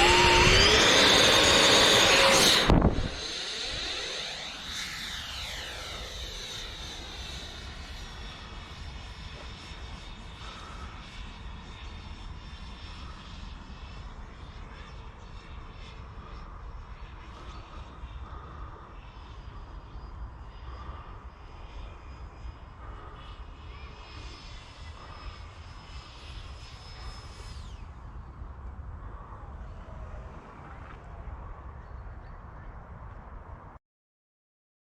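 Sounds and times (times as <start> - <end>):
electric ducted fan whine: 0.0 - 33.7.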